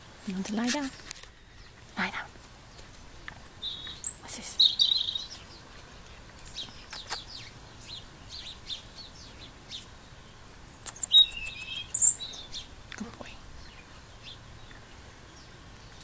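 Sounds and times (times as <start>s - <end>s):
small birds chirping: 0.3s - 16.0s.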